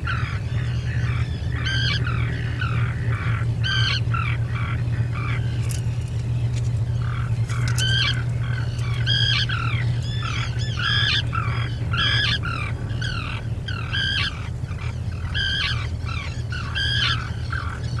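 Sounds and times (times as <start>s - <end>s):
seabirds calling: 0.0s - 18.0s
steady low hum: 0.0s - 18.0s.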